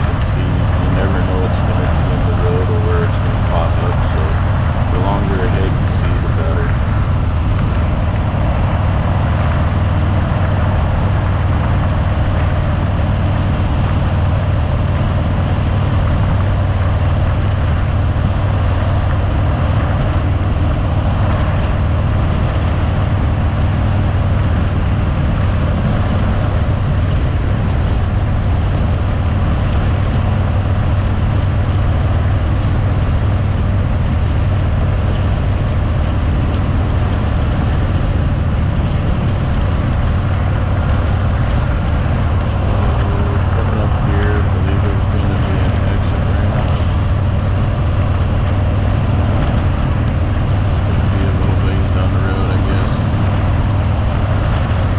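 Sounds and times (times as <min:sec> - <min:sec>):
motorcycle engine running: 0:00.0 - 0:54.9
wind noise: 0:00.0 - 0:54.9.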